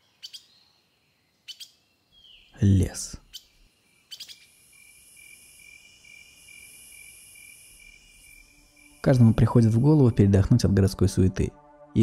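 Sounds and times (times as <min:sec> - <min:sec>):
crickets chirring: 0:00.2 - 0:10.6.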